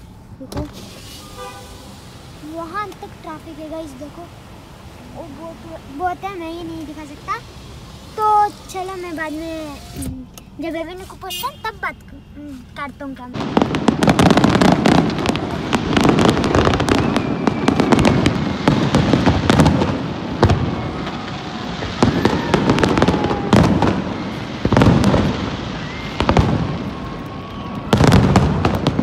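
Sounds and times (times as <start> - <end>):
fireworks bursting: 0.1 - 29.0.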